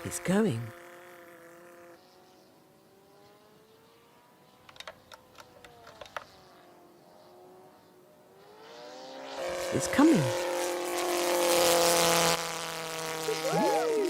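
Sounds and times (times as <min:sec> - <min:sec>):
small motor hum: 0:00.0 - 0:14.0.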